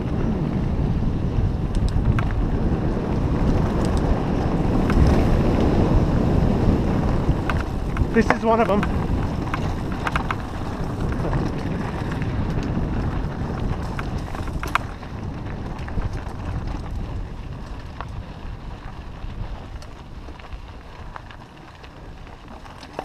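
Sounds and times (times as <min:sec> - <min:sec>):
mountain bike rattling on rocks: 0:00.0 - 0:23.0
wind buffeting microphone: 0:00.0 - 0:23.0.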